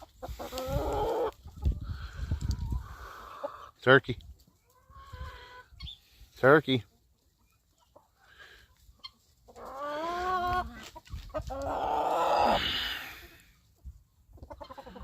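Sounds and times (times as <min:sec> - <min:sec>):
chickens calling: 0:00.0 - 0:15.0.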